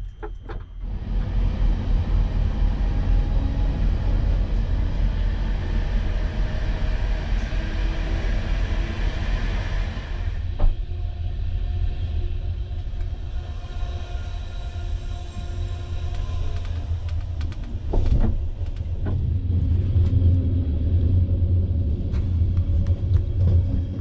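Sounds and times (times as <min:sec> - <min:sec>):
train rumbling from inside: 0:00.0 - 0:24.0.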